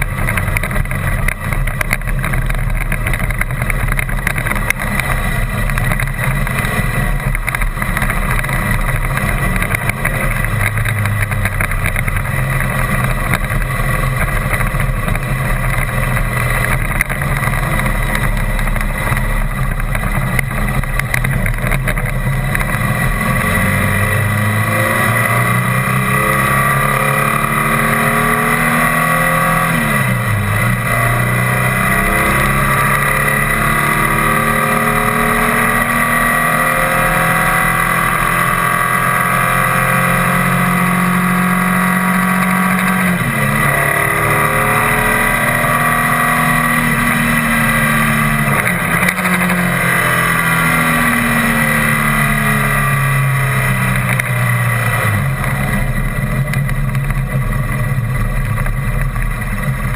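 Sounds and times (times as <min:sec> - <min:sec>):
vehicle engine: 0:00.0 - 0:59.9
vehicle rattling over gravel: 0:00.0 - 0:59.9.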